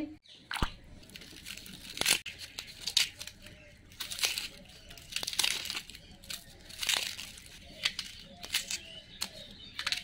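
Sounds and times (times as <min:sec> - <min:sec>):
knife scraping onion skin: 0:01.0 - 0:10.0.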